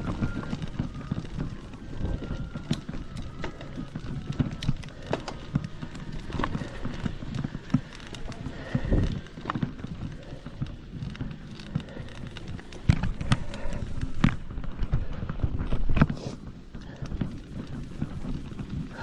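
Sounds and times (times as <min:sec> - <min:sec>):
footsteps on rocky ground: 0:01.0 - 0:19.0.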